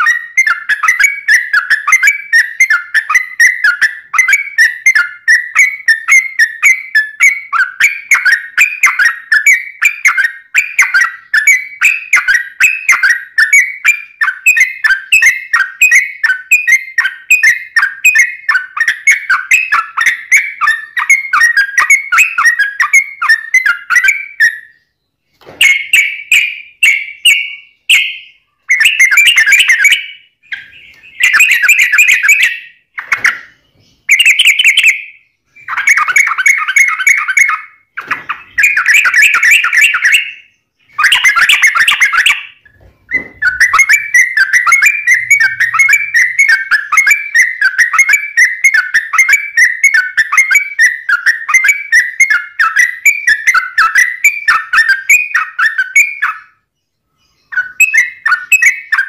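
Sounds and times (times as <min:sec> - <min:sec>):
bird singing bubbling notes: 0:00.0 - 0:59.0.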